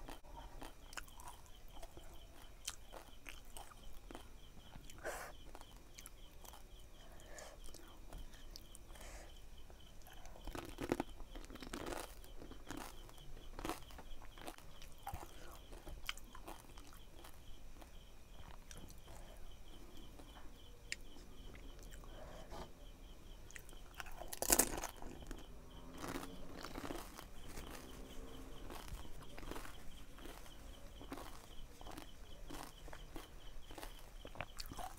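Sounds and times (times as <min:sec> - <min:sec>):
crunchy food chewing: 0:00.0 - 0:22.8, 0:23.4 - 0:34.9.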